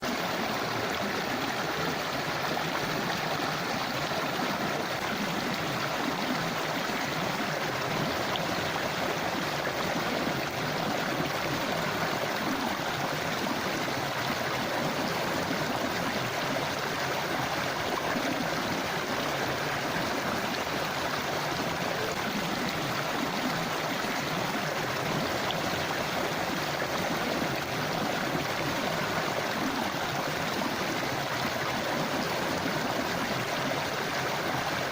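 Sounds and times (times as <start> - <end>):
river flowing over rocks: 0.0 - 34.9.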